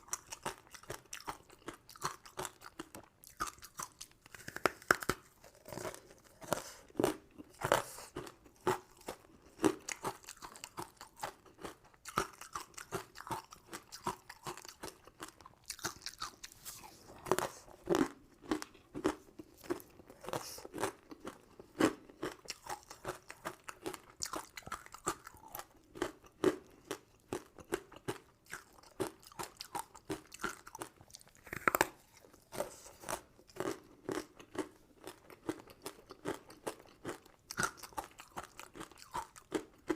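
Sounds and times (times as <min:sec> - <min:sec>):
chewing crunchy sweets: 0:00.0 - 0:39.9.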